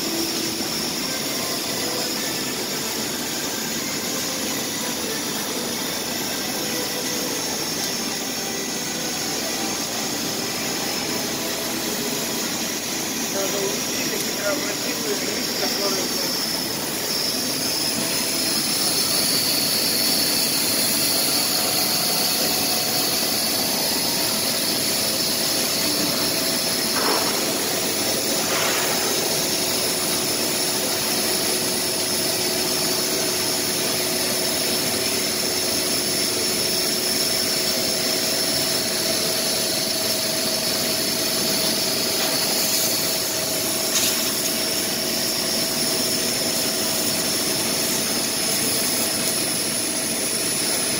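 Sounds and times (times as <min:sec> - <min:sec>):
laser cutter hiss and whine: 0:00.0 - 0:50.9.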